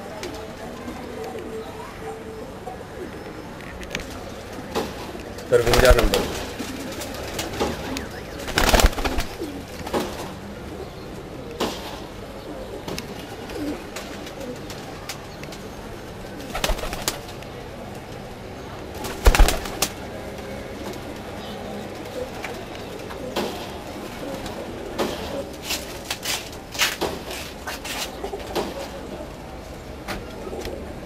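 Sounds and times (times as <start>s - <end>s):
pigeons cooing: 0.0s - 25.8s.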